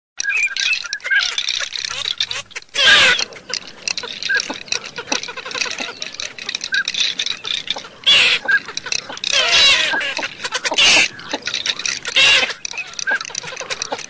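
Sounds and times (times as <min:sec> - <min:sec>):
ducks whistled calls: 0:00.2 - 0:14.0.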